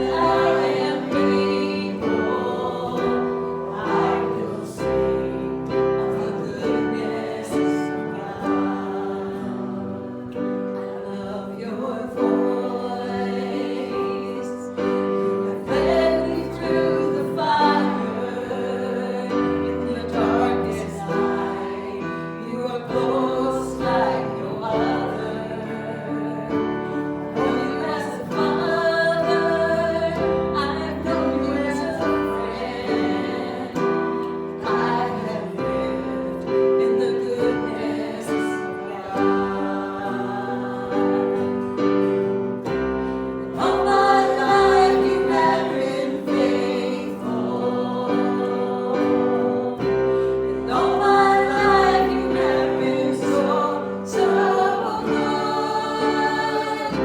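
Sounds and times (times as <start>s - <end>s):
piano accompaniment: 0.0s - 57.0s
voices singing: 0.0s - 57.0s.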